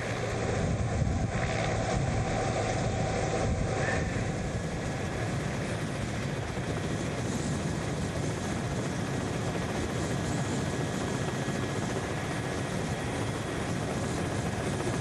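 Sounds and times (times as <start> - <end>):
helicopter engine and rotor rush: 0.0 - 15.0.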